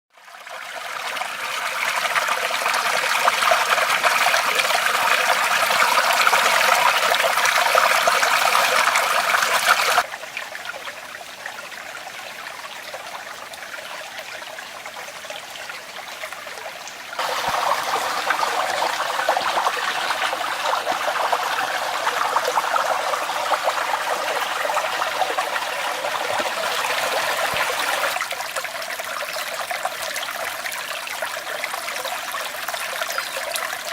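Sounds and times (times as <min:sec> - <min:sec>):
river water flowing: 0:00.2 - 0:33.9.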